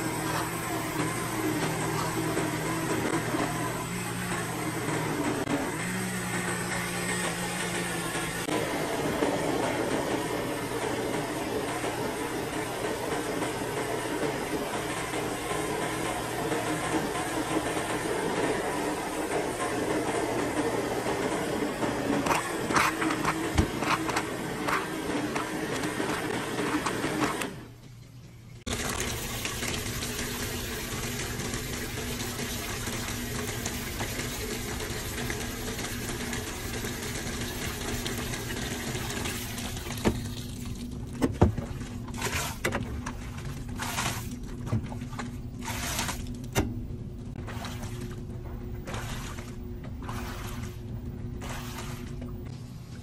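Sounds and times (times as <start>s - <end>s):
water gushing into drum: 0.0s - 27.4s, 28.7s - 46.4s, 47.3s - 52.4s
machine hum: 0.0s - 53.0s.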